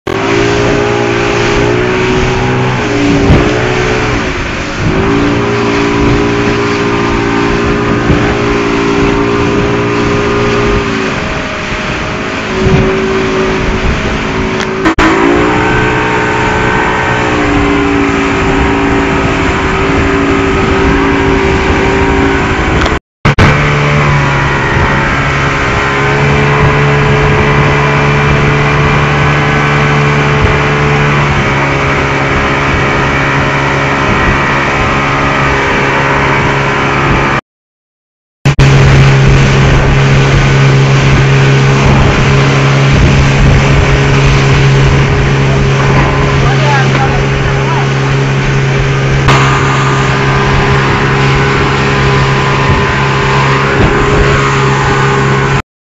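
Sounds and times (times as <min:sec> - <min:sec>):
speedboat engine drone: 0:00.1 - 0:37.4, 0:38.5 - 0:55.6
wind and water rushing: 0:00.1 - 0:37.4, 0:38.5 - 0:55.6.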